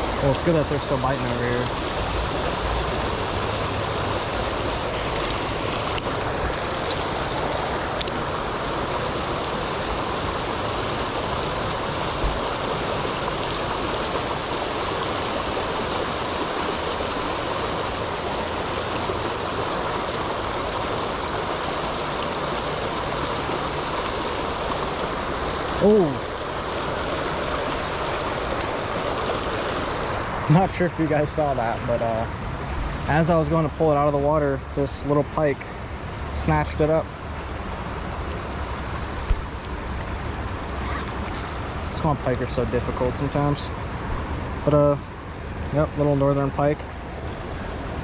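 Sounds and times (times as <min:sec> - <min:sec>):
river water rushing over riffle: 0:00.0 - 0:48.0.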